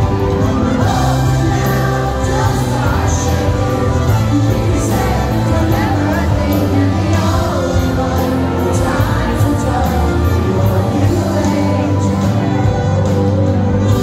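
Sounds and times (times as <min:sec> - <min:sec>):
lead singer singing: 0:00.0 - 0:14.0
live band playing pop-rock: 0:00.0 - 0:14.0.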